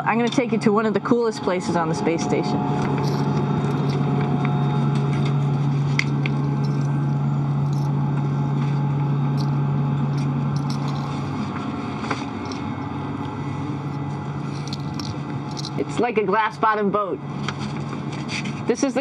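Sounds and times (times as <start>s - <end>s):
fans and machinery humming: 0.0s - 19.0s.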